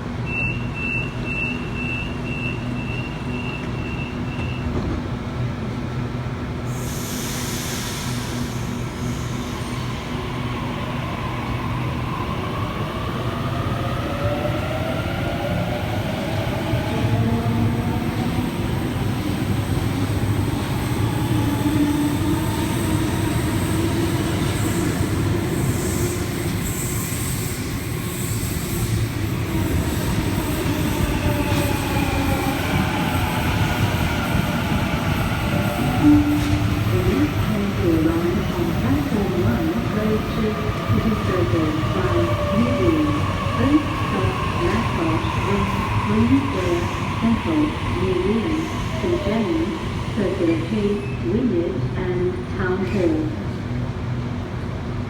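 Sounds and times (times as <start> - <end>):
train wheels rumbling on rail: 1.1 - 55.0.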